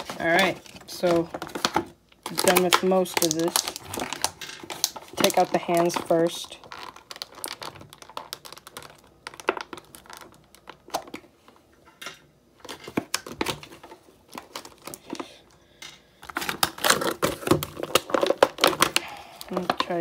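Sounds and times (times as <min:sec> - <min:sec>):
plastic bag crinkling: 0:00.0 - 0:11.6, 0:12.6 - 0:15.5, 0:16.2 - 0:20.0.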